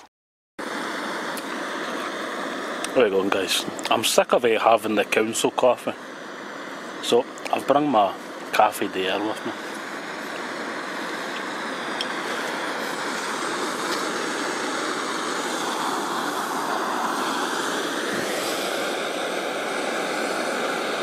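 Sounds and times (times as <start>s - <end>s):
gas stove burner hissing: 0.6s - 21.0s.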